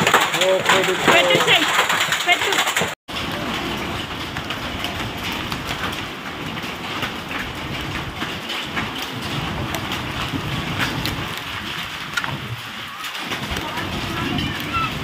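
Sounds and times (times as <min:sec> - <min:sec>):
hailstones striking: 0:00.0 - 0:15.0.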